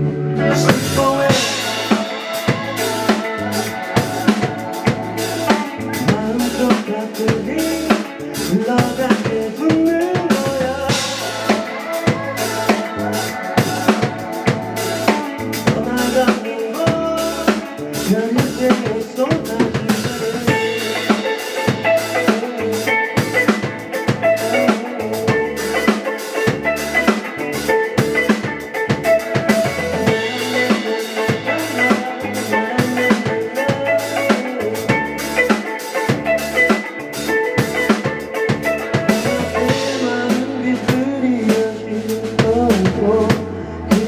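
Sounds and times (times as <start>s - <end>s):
rock band playing: 0.0s - 44.0s
drum kit hits: 0.6s - 17.7s, 18.5s - 41.6s.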